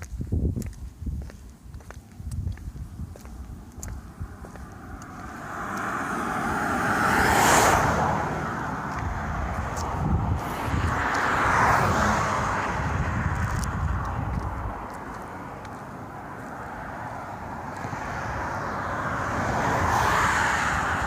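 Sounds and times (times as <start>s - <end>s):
cars passing on a highway: 0.0s - 21.0s.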